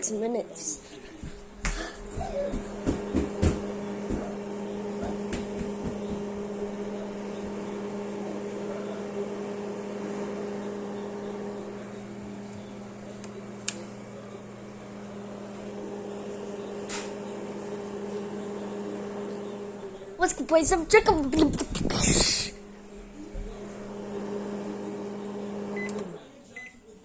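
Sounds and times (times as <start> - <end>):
microwave oven humming: 0.8 - 27.0.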